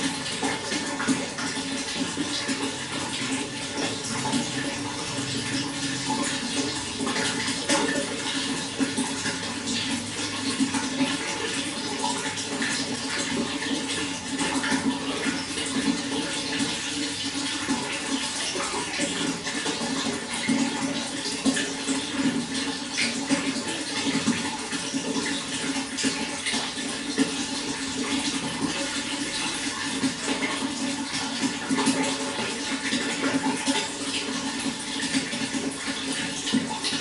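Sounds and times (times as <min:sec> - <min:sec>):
running water splashing: 0:00.0 - 0:37.0.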